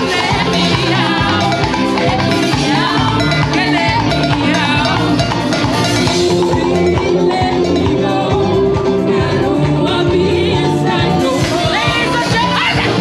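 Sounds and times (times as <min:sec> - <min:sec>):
live pop band playing: 0:00.0 - 0:13.0
person singing: 0:00.0 - 0:13.0.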